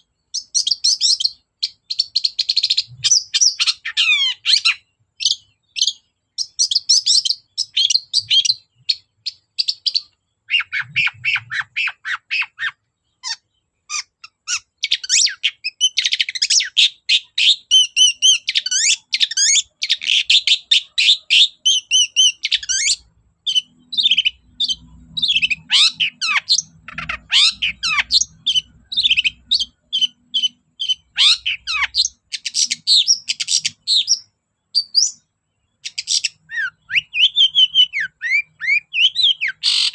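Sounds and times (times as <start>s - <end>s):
shrike chattering song: 0.4s - 35.2s.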